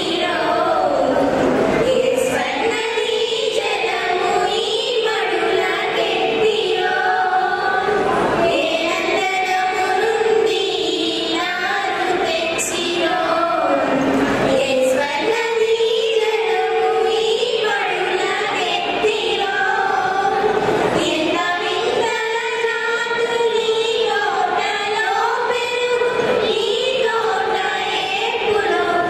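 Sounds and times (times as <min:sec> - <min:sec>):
girls singing together: 0:00.0 - 0:29.0.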